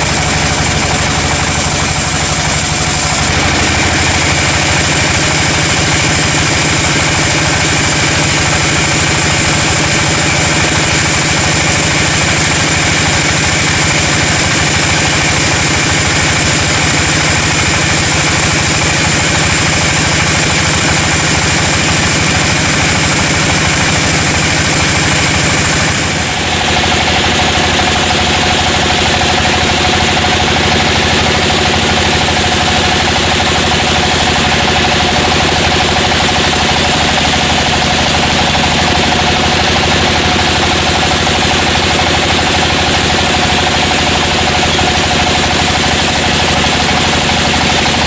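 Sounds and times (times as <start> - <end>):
sawmill engine running: 0.0 - 48.0.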